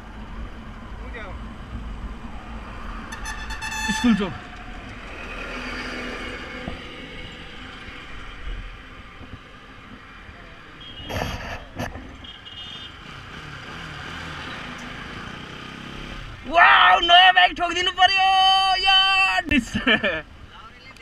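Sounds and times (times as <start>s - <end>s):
passing traffic: 0.0s - 21.0s
wind and road noise: 0.0s - 21.0s.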